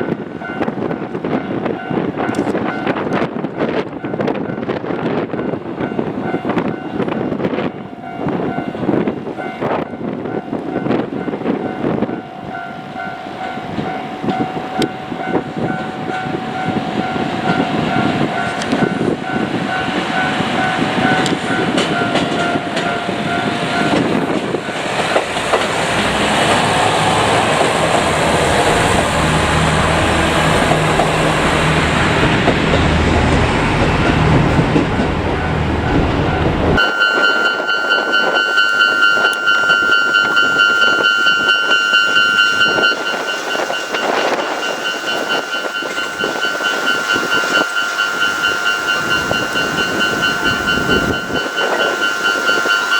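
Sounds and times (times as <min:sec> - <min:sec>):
train wheels rumbling and clattering: 0:00.0 - 0:52.9
level-crossing bell ringing: 0:05.4 - 0:52.9.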